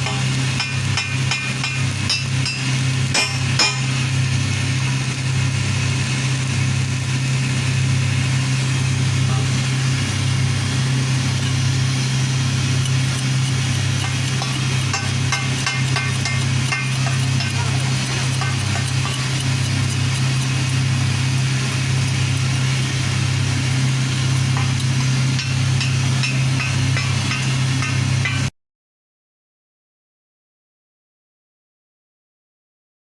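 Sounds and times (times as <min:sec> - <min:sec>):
arc welder buzzing and crackling: 0:00.0 - 0:28.5.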